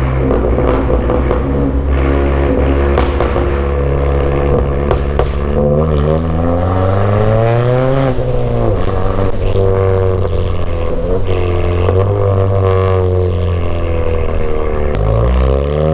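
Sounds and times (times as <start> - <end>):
car engine accelerating: 0.0 - 15.9
exhaust cracks: 0.0 - 15.9.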